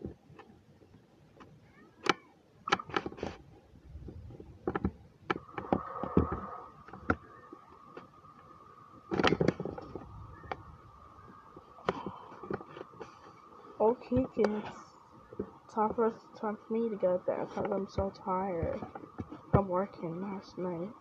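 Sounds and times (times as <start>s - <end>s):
steady high hum: 0.0s - 21.0s.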